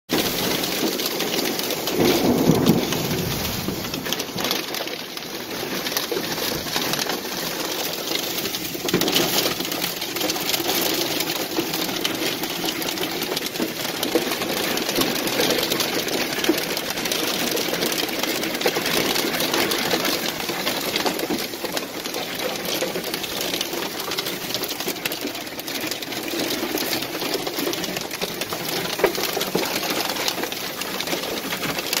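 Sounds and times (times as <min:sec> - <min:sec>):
hail rattling on vehicle: 0:00.1 - 0:32.0.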